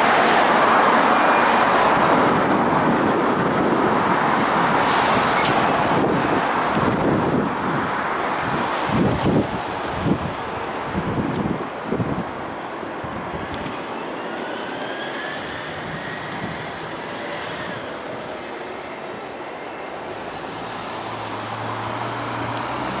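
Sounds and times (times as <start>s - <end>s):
traffic roar: 0.0s - 23.0s.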